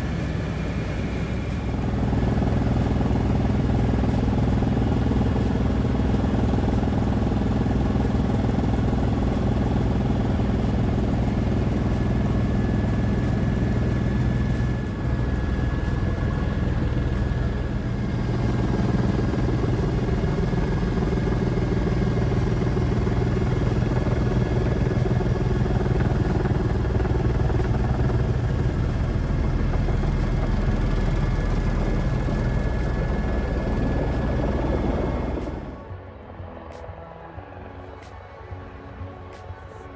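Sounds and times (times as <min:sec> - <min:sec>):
engine running: 0:00.0 - 0:35.9.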